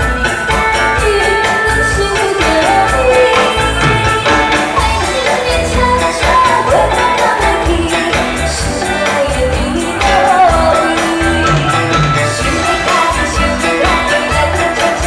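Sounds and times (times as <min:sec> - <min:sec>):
musical accompaniment with beat: 0:00.0 - 0:15.0
person singing: 0:00.3 - 0:15.0.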